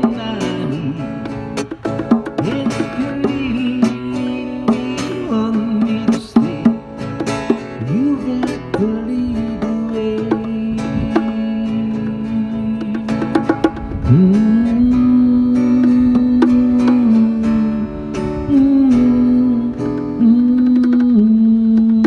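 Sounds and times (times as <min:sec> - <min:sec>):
percussive beat: 0:00.0 - 0:22.0
plucked string instrument: 0:00.0 - 0:22.0.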